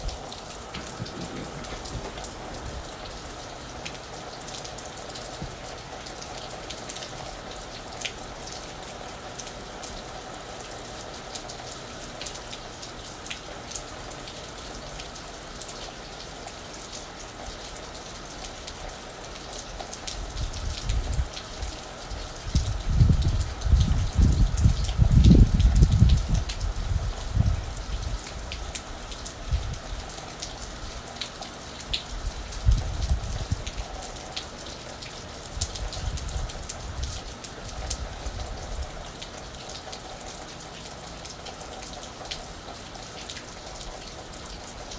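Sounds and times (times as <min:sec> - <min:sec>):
rain falling on a roof: 0:00.0 - 0:44.9.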